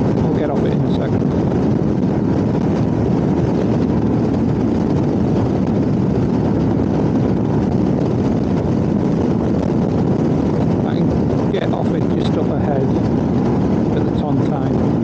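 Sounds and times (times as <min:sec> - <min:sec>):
motorcycle road noise: 0:00.0 - 0:15.0
wind rush: 0:00.0 - 0:15.0.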